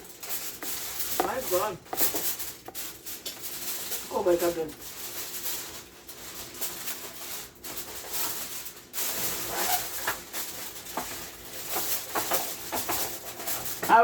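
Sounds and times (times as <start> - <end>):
aluminium foil crinkling: 0.0 - 14.0.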